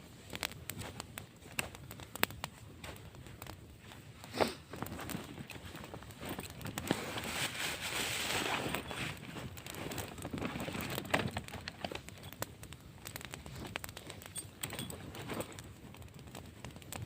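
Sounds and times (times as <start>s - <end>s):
irregular crackling: 0.0s - 17.0s.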